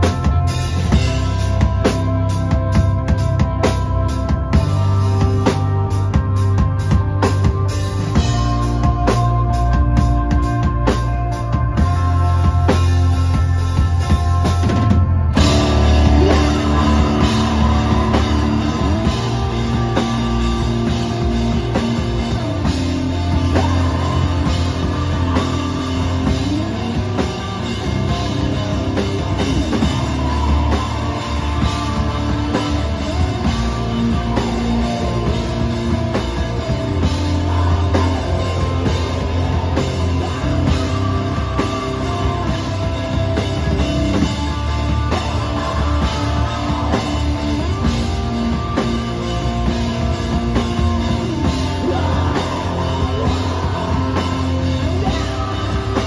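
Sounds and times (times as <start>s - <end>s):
electric bass guitar: 0.0s - 56.0s
electric guitar: 0.0s - 56.0s
live rock band playing: 0.0s - 56.0s.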